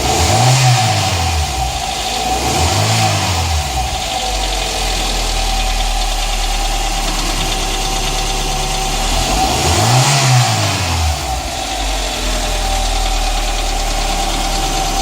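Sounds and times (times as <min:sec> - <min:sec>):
engine idling: 0:00.0 - 0:15.0
engine revving: 0:00.0 - 0:15.0.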